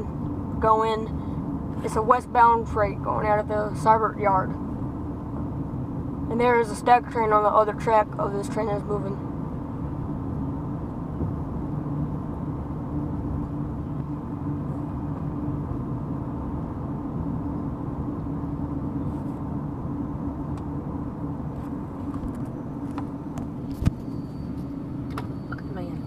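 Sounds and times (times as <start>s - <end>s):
road and engine drone in car: 0.0s - 26.0s.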